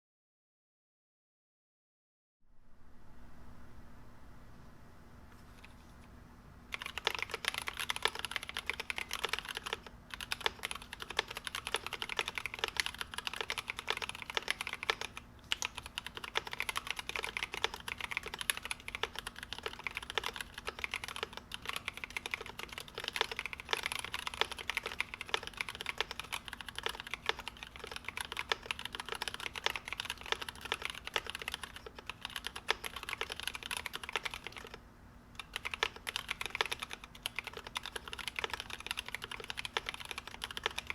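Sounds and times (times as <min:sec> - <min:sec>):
mechanical keyboard typing: 0:06.7 - 0:34.8, 0:35.4 - 0:40.9.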